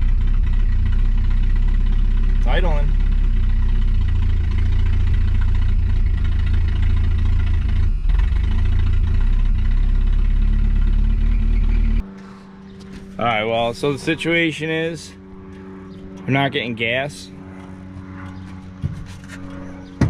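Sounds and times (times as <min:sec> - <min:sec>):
car engine idling rough: 0:00.0 - 0:20.0.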